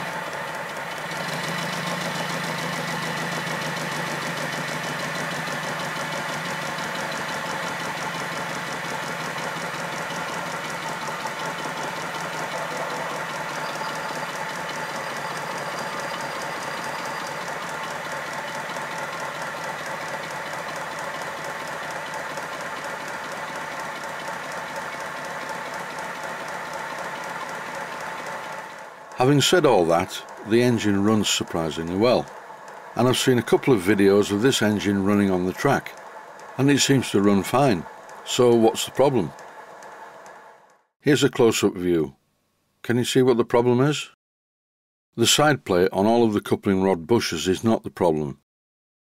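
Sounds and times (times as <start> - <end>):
model steam locomotive exhaust beats: 0.0 - 40.5
mechanical clatter: 0.0 - 40.8.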